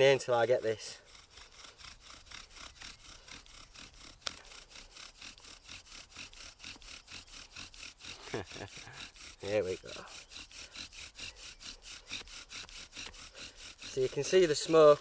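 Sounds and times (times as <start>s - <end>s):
bow drill spindle rasping: 0.0s - 15.0s.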